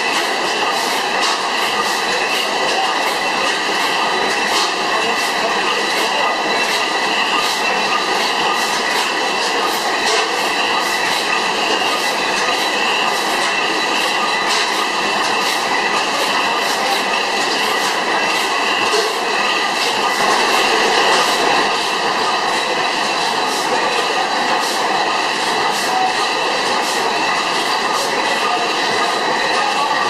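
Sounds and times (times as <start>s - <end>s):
stationary gas engine clattering: 0.0s - 30.0s.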